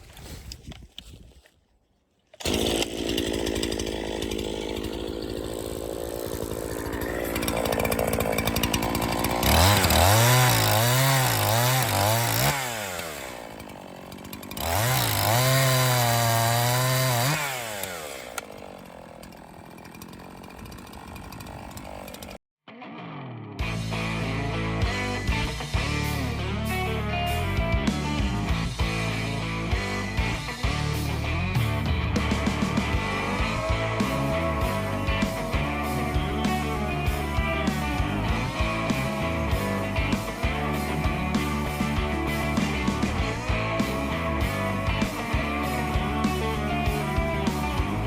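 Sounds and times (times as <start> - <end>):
chainsaw cutting a log: 2.4 - 22.4, 25.9 - 48.0.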